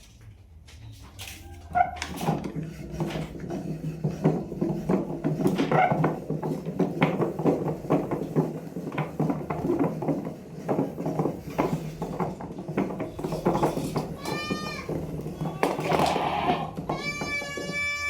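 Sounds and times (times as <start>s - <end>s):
wooden roller clattering: 1.6s - 18.0s.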